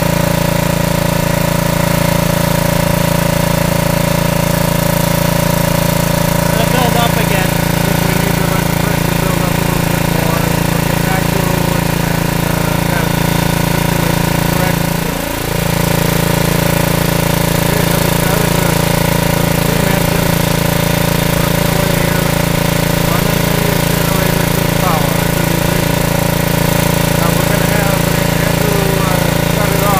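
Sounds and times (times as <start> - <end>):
steam engine humming: 0.0 - 29.9.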